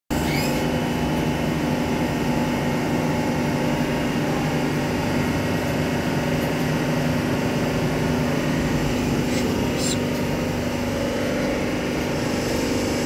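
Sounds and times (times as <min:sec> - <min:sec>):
constant whirr: 0:00.1 - 0:13.0
train electric hum: 0:00.1 - 0:13.0.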